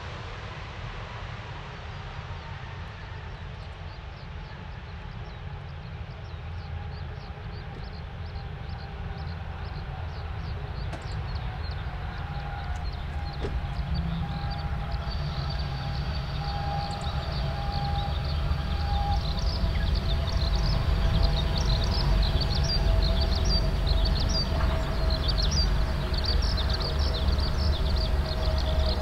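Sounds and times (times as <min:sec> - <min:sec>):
faint engine whine: 0:00.0 - 0:29.0
airliner rumble: 0:01.7 - 0:29.0.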